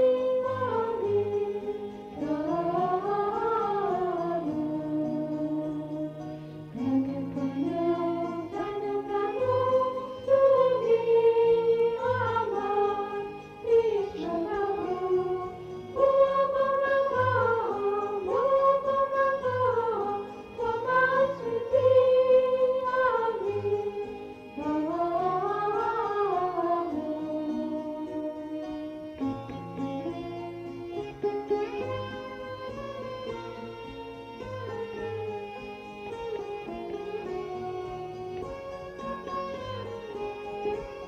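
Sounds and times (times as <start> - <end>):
gliding slow melody: 0.0 - 41.0.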